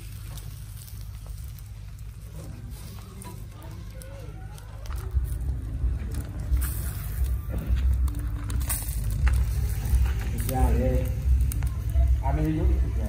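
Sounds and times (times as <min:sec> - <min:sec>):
fat sizzling on charcoal: 0:00.0 - 0:13.0
low rumble: 0:00.0 - 0:13.0.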